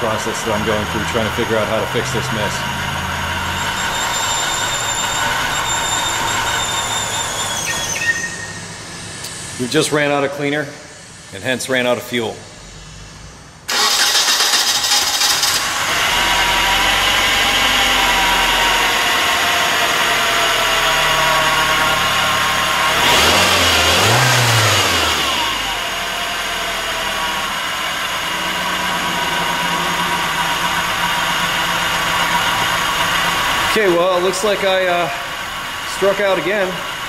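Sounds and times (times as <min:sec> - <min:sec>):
engine revving: 0:00.0 - 0:08.7, 0:13.7 - 0:36.7
car engine starting and idling: 0:00.0 - 0:11.3, 0:12.4 - 0:37.0.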